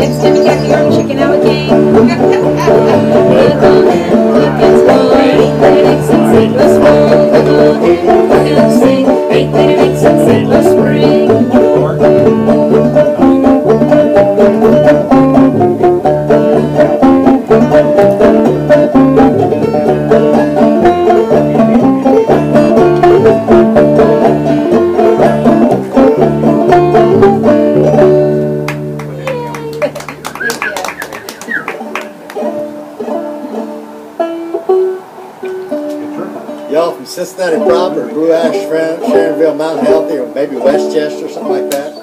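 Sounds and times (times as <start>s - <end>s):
picked banjo notes: 0.0s - 42.0s
plucked upright bass: 0.0s - 42.0s.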